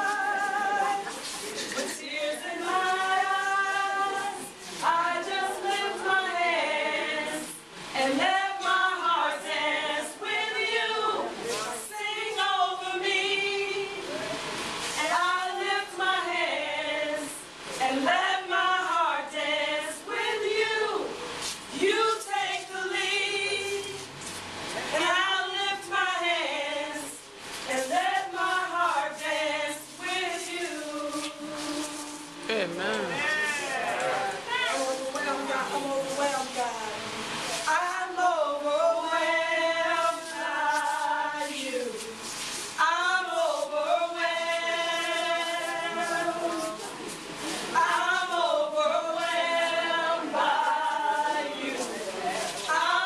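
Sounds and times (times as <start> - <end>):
other voices singing: 0.0 - 24.2, 24.9 - 53.0
woman singing slow worship song: 0.0 - 53.0.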